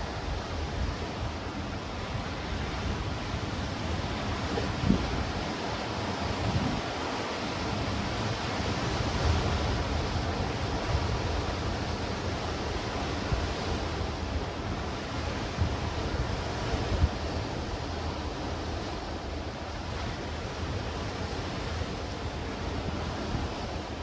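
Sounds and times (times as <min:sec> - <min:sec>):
wind buffeting microphone: 0:00.0 - 0:24.0
waves breaking on rocks: 0:00.1 - 0:24.0.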